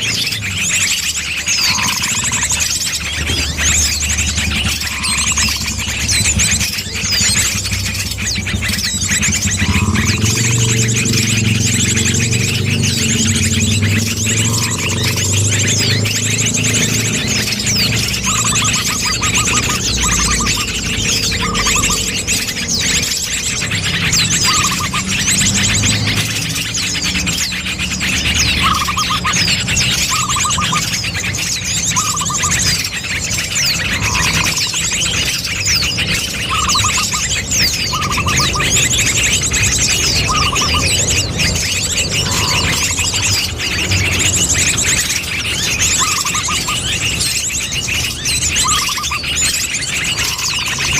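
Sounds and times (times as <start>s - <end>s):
lower short bird trill: 0.0s - 50.9s
small birds chirping and trilling: 0.0s - 50.9s.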